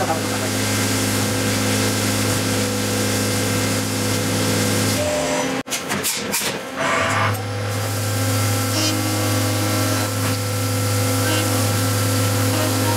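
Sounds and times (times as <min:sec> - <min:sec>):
milling machine hum: 0:00.0 - 0:05.6, 0:06.7 - 0:12.9.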